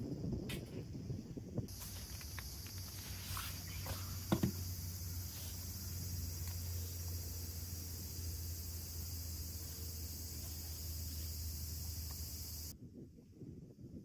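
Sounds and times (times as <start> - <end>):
high drone of insects: 0.0 - 12.8.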